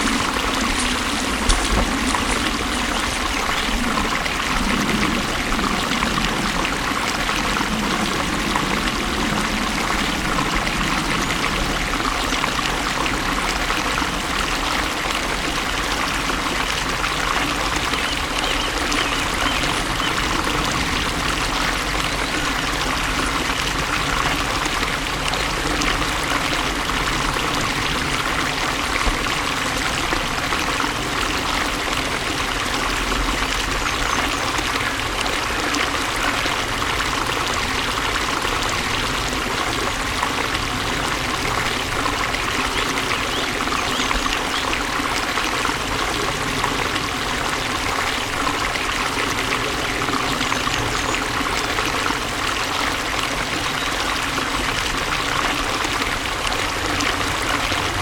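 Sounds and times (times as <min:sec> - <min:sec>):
flowing water splashing: 0:00.0 - 0:58.0.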